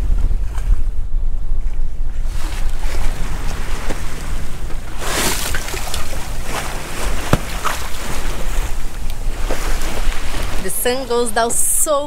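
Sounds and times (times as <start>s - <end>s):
wind rumbling on microphone: 0.0s - 12.0s
water rushing past boat hull: 1.9s - 12.0s.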